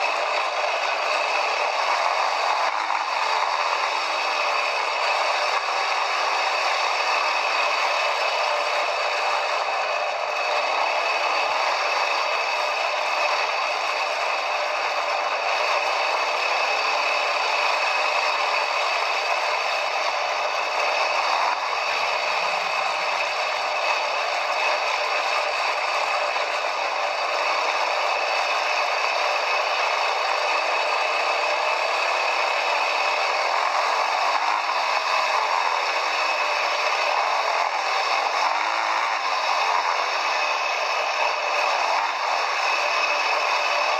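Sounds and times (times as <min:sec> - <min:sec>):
quad bike rattling and scraping: 0:00.0 - 0:43.9.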